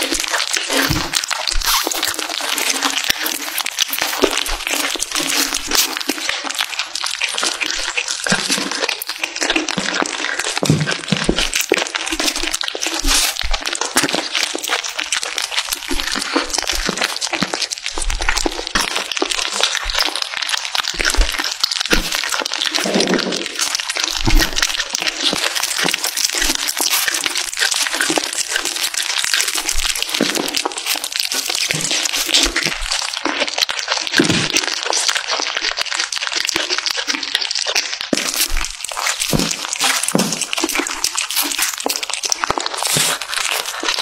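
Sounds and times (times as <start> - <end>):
kittens licking and chewing: 0.0 - 44.0.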